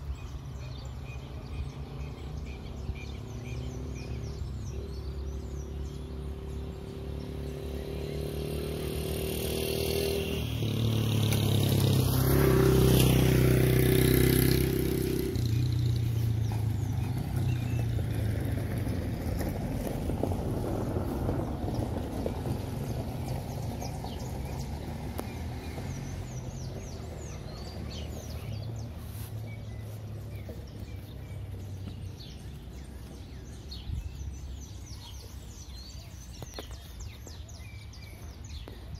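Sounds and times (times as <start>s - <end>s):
vehicle engine passing: 0.2s - 38.9s.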